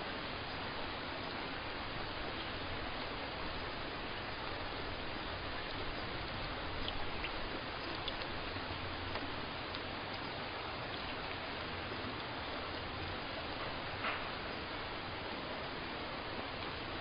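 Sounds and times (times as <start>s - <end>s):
faint drips: 0.0s - 17.0s
steady rain: 0.0s - 17.0s.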